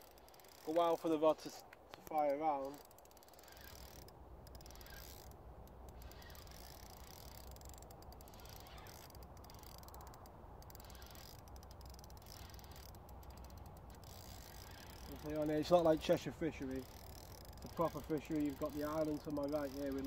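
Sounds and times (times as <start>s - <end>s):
fishing reel clicking: 0.0s - 20.0s.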